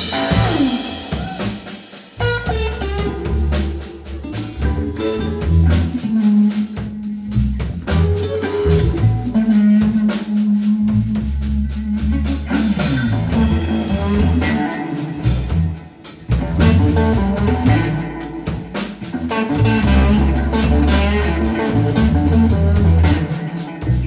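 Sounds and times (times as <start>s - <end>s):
plucked guitar: 0.0s - 1.4s, 2.2s - 24.0s
drum kit: 0.0s - 24.0s
low bass notes: 0.0s - 24.0s.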